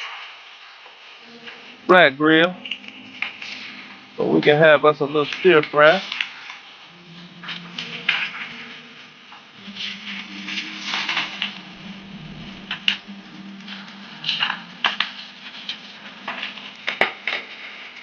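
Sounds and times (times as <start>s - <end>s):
steady low hum: 0.6s - 17.9s.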